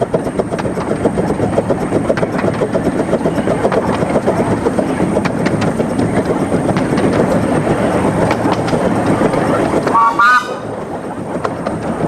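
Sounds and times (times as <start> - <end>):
steam locomotive exhaust beat: 0.0 - 12.0
wheels clicking on track: 0.0 - 12.0.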